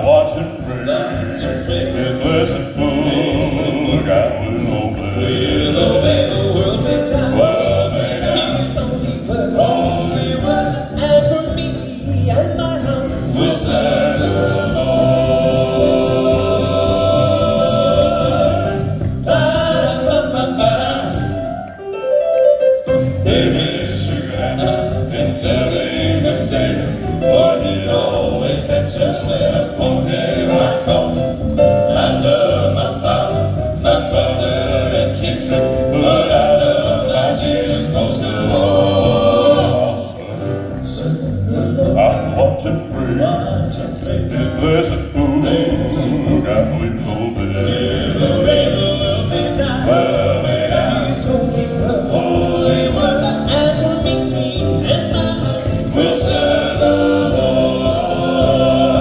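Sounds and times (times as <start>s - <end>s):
male quartet singing in harmony: 0.0s - 21.8s, 22.8s - 59.0s
live band with keyboard guitar drums: 0.0s - 59.0s.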